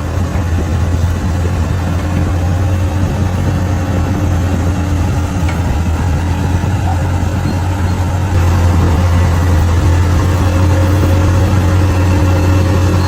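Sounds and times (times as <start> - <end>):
bulldozer diesel engine humming: 0.0 - 13.0.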